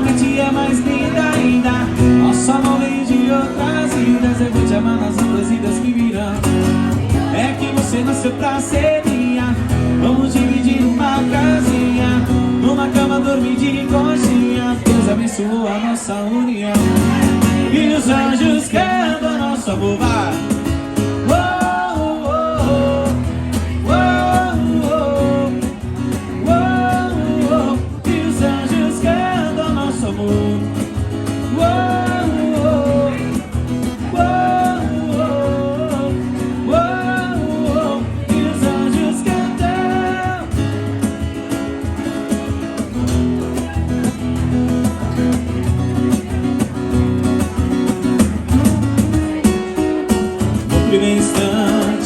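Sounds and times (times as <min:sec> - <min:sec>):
live band playing: 0:00.0 - 0:15.4, 0:16.8 - 0:52.0.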